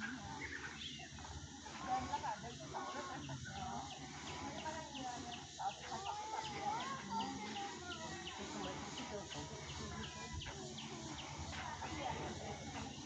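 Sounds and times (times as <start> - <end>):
birds wavering calls: 0.0 - 13.0.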